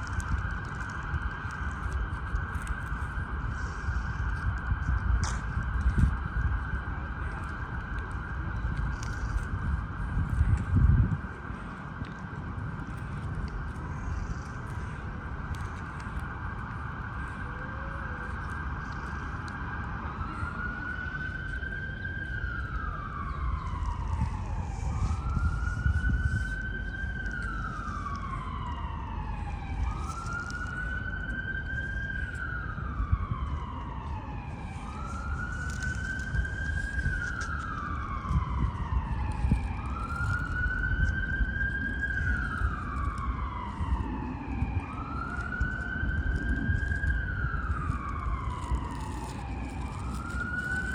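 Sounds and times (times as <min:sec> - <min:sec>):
emergency siren wailing: 0:00.0 - 0:50.9
steady low rumble: 0:00.0 - 0:50.9.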